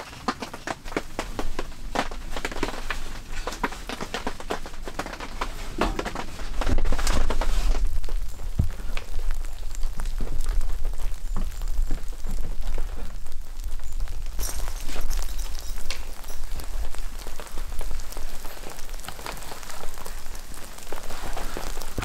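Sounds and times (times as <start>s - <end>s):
rain patter: 0.0s - 22.0s.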